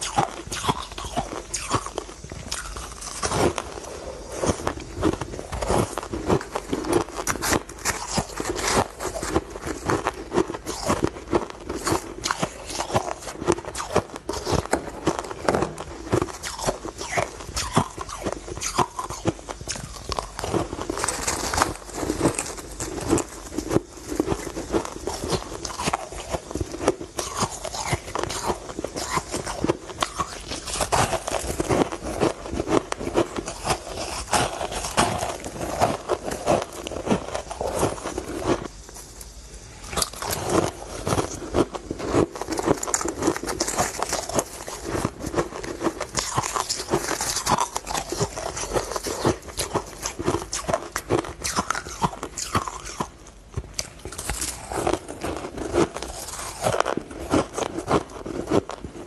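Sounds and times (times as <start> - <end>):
crunchy chewing of shaved ice: 0.0 - 59.0.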